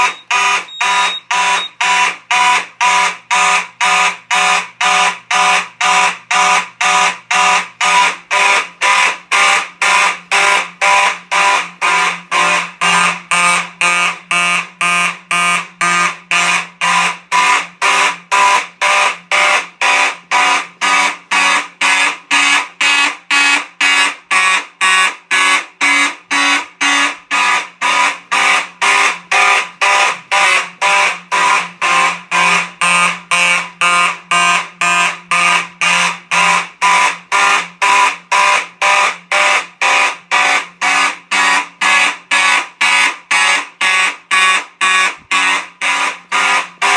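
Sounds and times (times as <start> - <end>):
fire alarm horns pulsing: 0.0 - 46.9.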